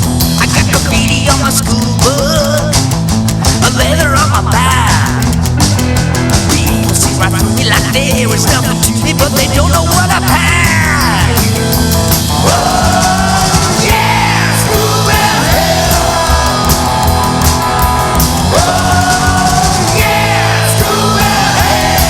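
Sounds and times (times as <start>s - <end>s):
rock band playing: 0.0s - 22.0s
sliding lead guitar: 0.0s - 22.0s.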